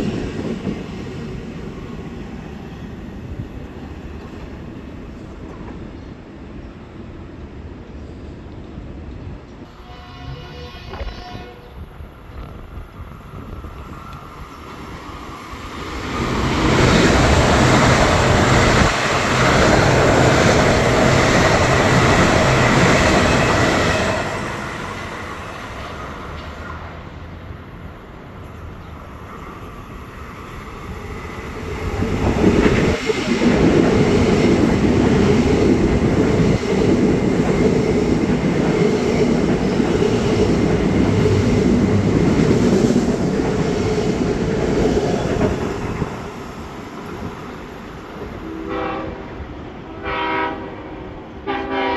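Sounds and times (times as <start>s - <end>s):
trains passing wheels clattering: 0.0s - 10.7s, 11.5s - 51.9s.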